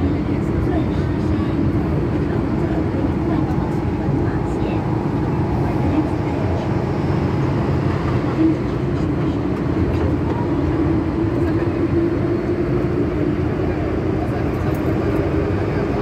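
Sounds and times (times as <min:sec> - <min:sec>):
constant low hum: 0:00.0 - 0:16.0
train wheels rumbling on rail: 0:00.0 - 0:16.0.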